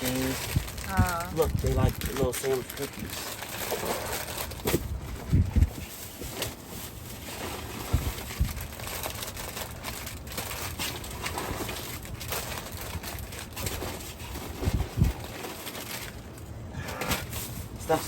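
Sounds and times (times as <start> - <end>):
plastic bags rustling: 0.0 - 18.0.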